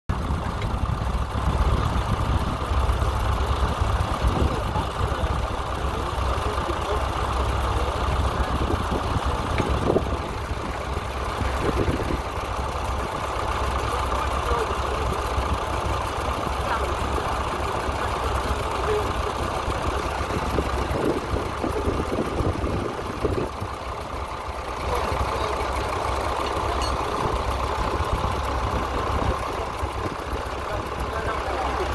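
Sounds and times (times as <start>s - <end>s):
tractor engine running under load: 0.1s - 31.9s.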